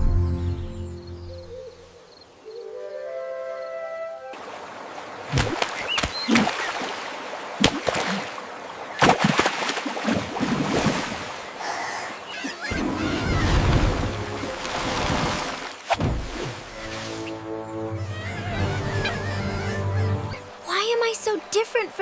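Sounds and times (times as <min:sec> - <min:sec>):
water splashing and sloshing: 0:04.2 - 0:22.0.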